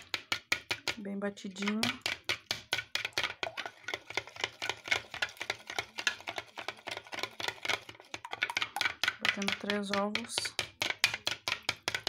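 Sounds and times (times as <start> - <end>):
eggs beaten in plastic bowl: 0.0 - 12.0.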